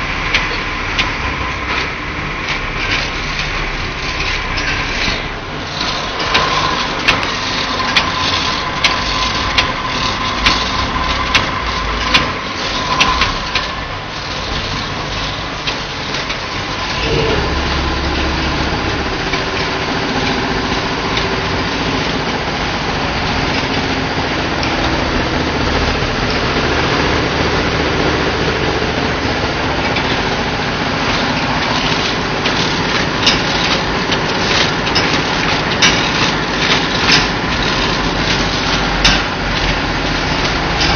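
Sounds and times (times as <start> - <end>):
low machine hum: 0.0 - 40.9
sharp machine clacks: 0.0 - 40.9
labeling machine clatter: 0.2 - 40.9.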